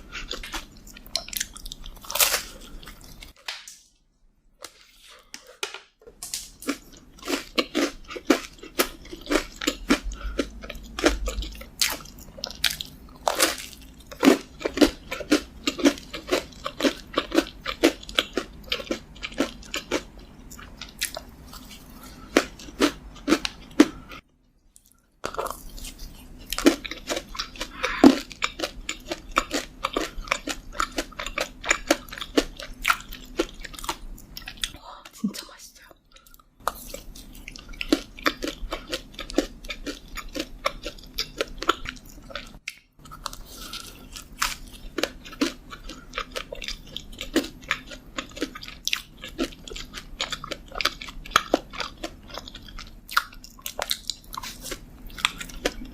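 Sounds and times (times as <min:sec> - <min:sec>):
chewing and biting food: 0:00.0 - 0:03.4, 0:06.6 - 0:34.8, 0:36.1 - 0:55.9.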